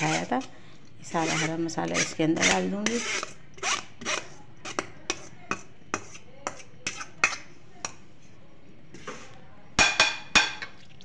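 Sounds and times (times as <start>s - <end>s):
soft spoon scrape: 0.0s - 9.5s.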